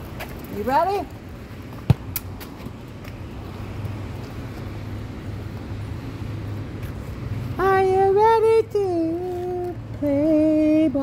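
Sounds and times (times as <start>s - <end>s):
distant road traffic hum: 0.0s - 11.0s.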